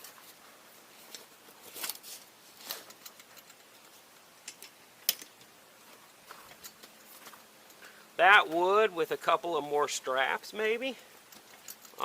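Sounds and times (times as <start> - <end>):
light clicks and rustles: 0.0 - 8.8, 10.6 - 12.0.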